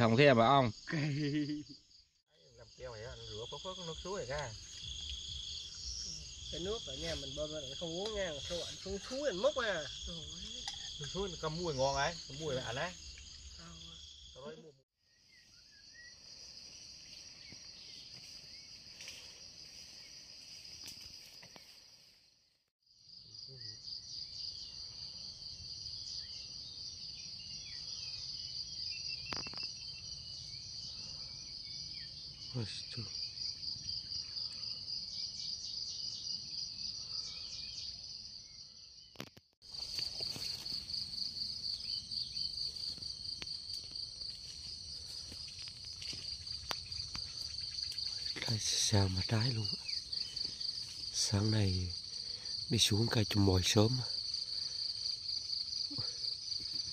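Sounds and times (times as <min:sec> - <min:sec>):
insects chorus: 0:00.0 - 0:56.9.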